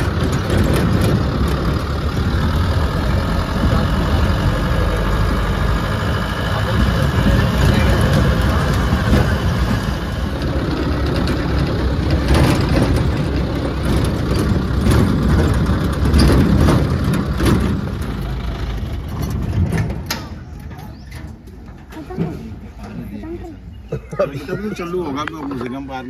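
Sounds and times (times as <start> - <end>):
knocks and rattles: 0.0 - 23.0
bus engine rumbling: 0.0 - 26.0.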